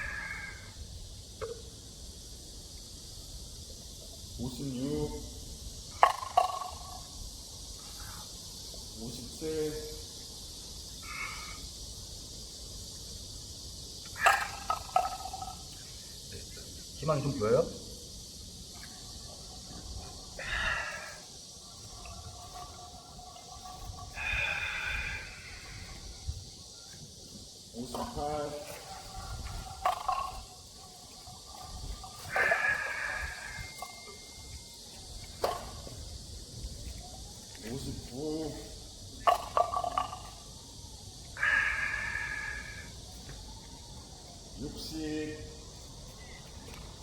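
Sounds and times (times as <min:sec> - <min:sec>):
steady hiss: 0:00.0 - 0:47.0.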